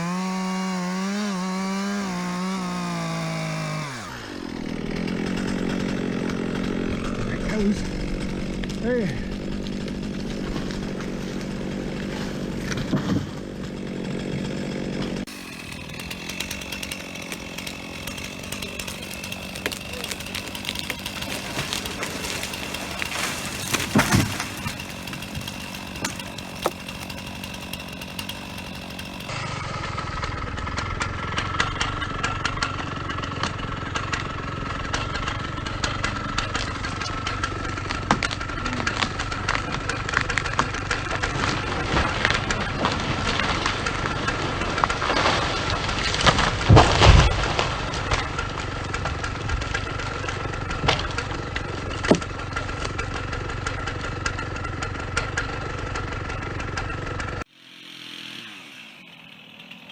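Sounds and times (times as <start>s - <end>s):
wood cracking: 0.0s - 29.3s, 33.4s - 57.5s
chainsaw cutting wood: 0.0s - 59.9s.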